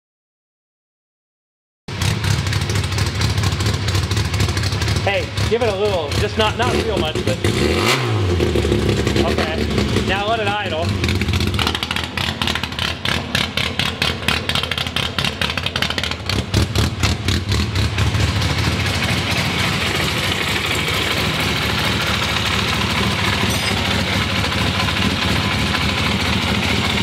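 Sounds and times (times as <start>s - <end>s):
car engine idling: 2.0s - 7.6s, 8.4s - 27.0s.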